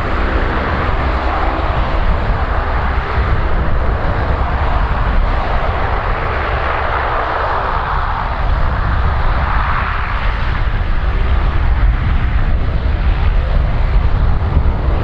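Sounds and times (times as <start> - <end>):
loud propeller drone: 0.0 - 15.0.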